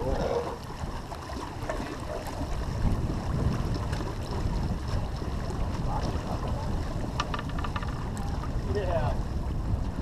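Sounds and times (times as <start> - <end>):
water washing along hull: 0.0 - 10.0
wind buffeting microphone: 0.0 - 10.0.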